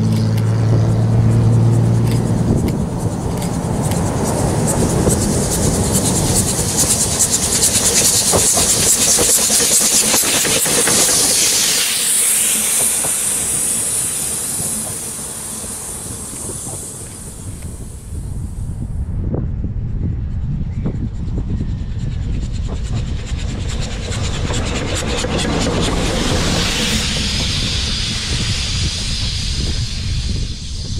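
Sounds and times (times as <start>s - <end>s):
low rumble: 0.0s - 9.2s, 10.8s - 30.9s
train wheels clicking on rail joints: 0.0s - 18.2s, 22.6s - 30.9s
steam hiss: 1.0s - 18.9s, 23.2s - 30.9s.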